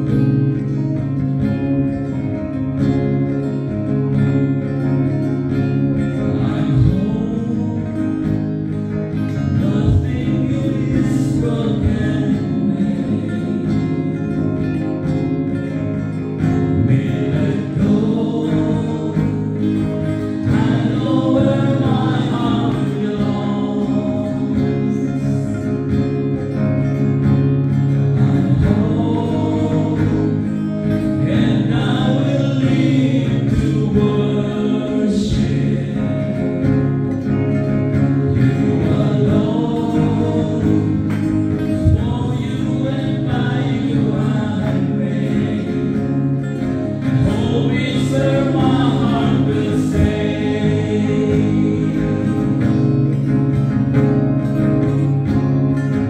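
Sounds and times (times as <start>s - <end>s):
band with guitar: 0.0s - 56.0s
group singing: 0.0s - 56.0s.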